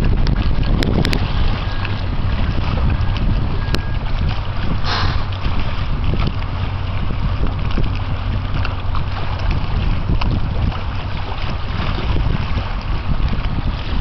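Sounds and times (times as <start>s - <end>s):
boat engine hum: 0.0s - 14.0s
wind buffeting microphone: 0.0s - 14.0s.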